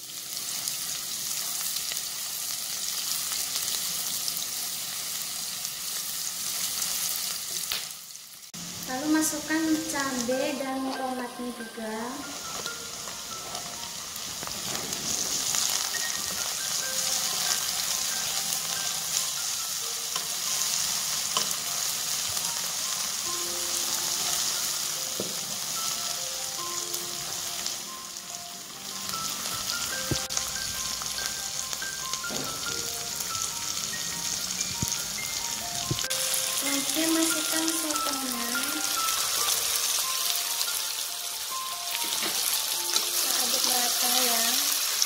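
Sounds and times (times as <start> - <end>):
vegetables sizzling in oil: 0.0 - 45.0.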